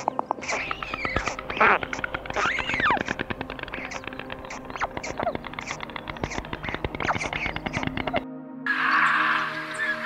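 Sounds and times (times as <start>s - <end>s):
stork bill-clattering: 0.0s - 8.2s
low music drone: 0.6s - 10.0s.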